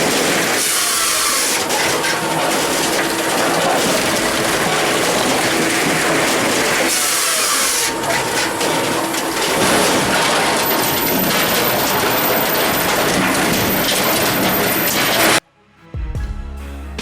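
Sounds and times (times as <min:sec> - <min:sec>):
firewood processor engine and cutting: 0:00.0 - 0:15.4.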